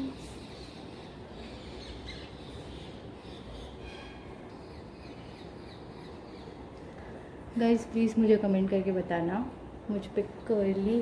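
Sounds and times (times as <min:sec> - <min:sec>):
birds chirping faintly: 0:00.0 - 0:11.0
low hiss of room noise: 0:00.0 - 0:11.0.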